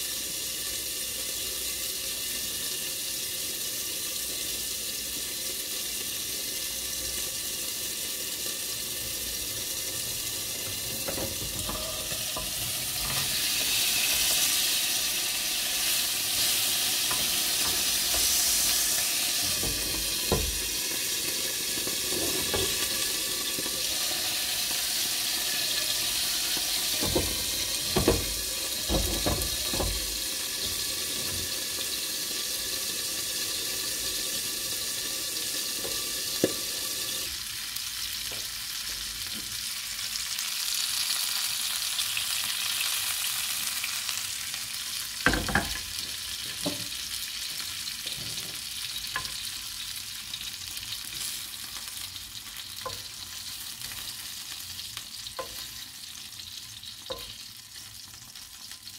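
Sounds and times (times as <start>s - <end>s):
food sizzling in a pan: 0.0s - 58.9s.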